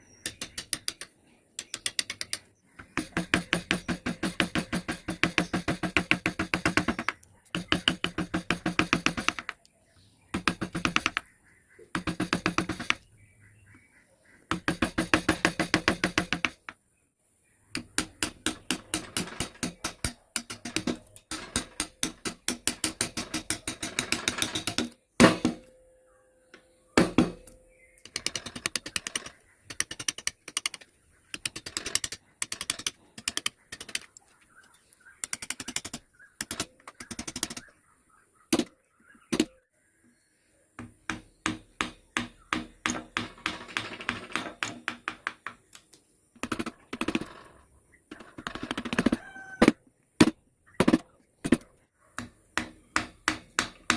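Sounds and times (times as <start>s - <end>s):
carving tools tapping wood: 0.2s - 9.7s, 10.3s - 11.3s, 11.9s - 13.1s, 14.5s - 16.8s, 17.7s - 25.6s, 27.0s - 34.2s, 35.2s - 37.7s, 40.8s - 47.3s, 48.1s - 53.9s.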